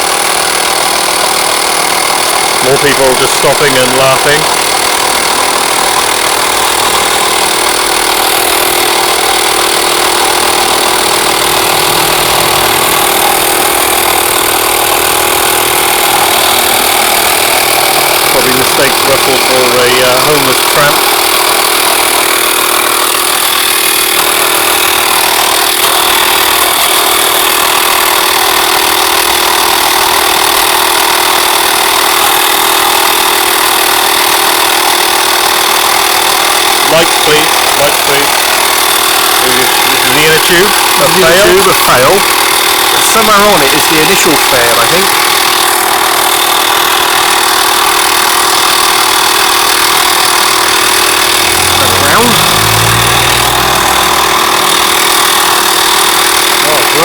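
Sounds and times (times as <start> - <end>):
tyre compressor running: 0.0 - 57.0.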